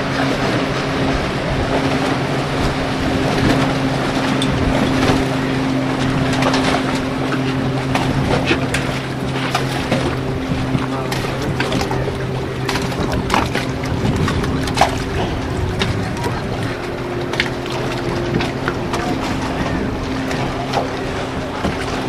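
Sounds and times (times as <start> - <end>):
engine running steadily: 0.0 - 22.0
wind noise on microphone: 0.0 - 22.0.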